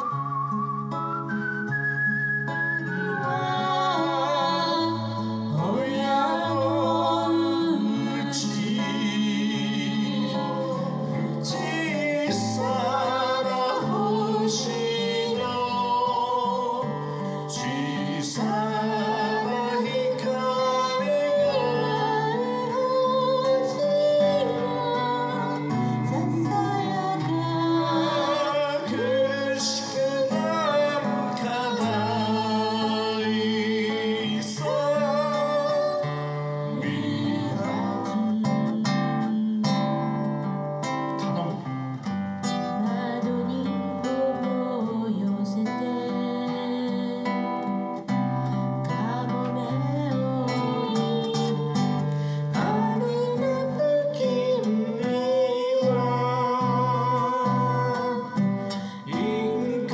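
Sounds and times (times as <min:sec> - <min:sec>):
acoustic guitar strumming: 0:00.0 - 0:59.9
man and woman singing: 0:02.9 - 0:48.2, 0:48.8 - 0:59.9.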